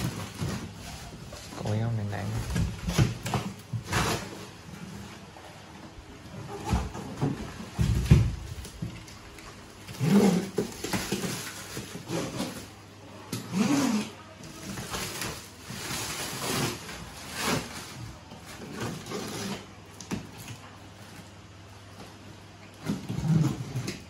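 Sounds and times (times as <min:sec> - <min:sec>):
plastic wrap rustling and tearing: 0:00.0 - 0:05.5, 0:06.3 - 0:24.0.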